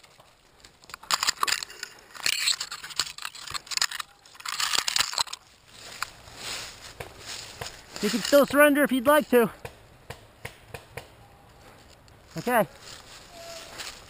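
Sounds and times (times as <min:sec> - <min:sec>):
leaves and twigs crunching: 0:00.0 - 0:09.6, 0:11.4 - 0:14.0.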